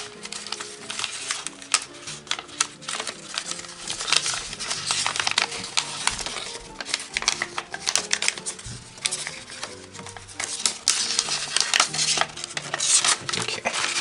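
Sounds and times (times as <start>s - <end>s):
paper crackling as folded: 0.0s - 14.0s
soft background music: 0.0s - 14.0s.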